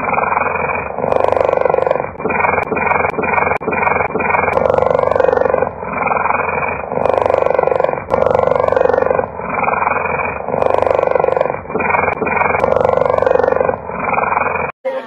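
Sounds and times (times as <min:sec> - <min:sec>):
leopard pulsing rumble: 0:00.0 - 0:14.7.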